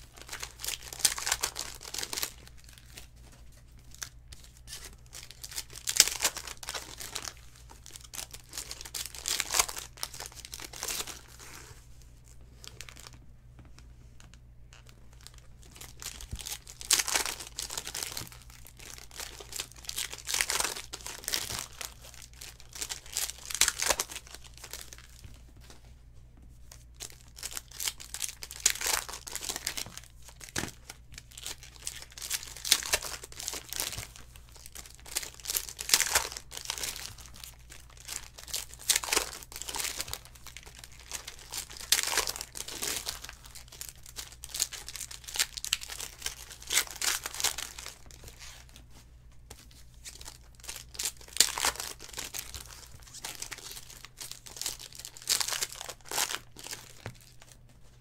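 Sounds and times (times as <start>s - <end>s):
foil wrappers crinkling and tearing: 0.0s - 11.6s, 14.7s - 25.8s, 26.7s - 48.8s, 49.5s - 58.0s.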